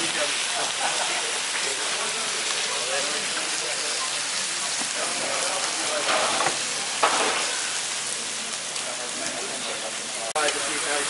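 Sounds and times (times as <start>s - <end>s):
beef sizzling on a griddle: 0.0s - 11.0s.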